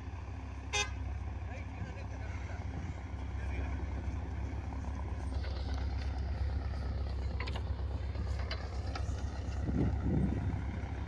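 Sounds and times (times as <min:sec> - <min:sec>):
snow-blower engine droning: 0:00.0 - 0:11.0.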